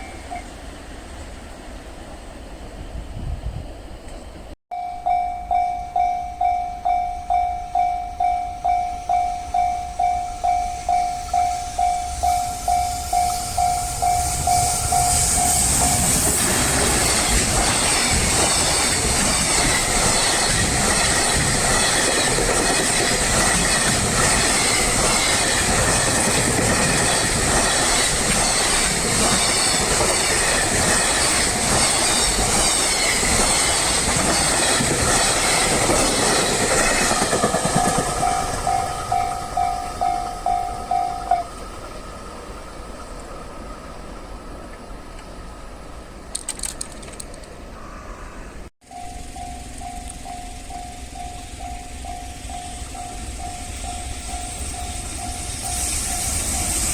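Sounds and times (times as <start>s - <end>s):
train wheels rumbling on rail: 0.0s - 47.9s, 48.8s - 56.9s
level-crossing warning bell: 4.7s - 43.2s, 48.8s - 56.9s.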